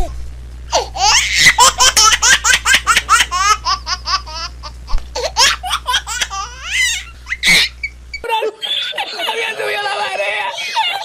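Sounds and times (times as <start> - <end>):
high-pitched laughter: 1.0 - 4.5, 5.4 - 11.0.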